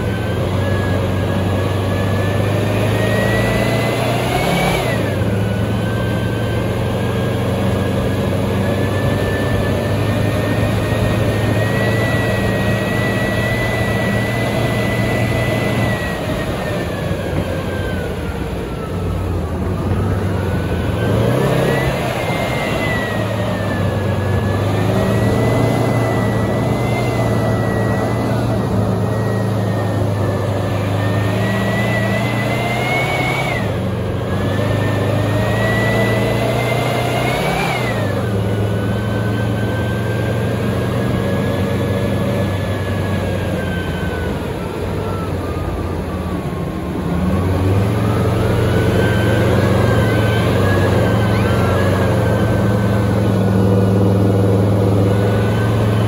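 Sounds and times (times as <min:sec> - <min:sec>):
high engine whine: 0:00.0 - 0:56.0
tank diesel engine running: 0:00.0 - 0:56.0.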